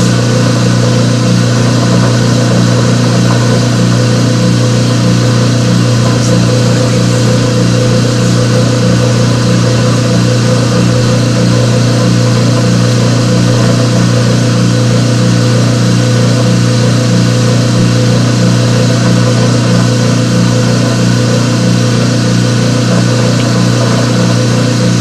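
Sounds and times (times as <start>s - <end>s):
motor hum with pulsing: 0.0s - 25.0s.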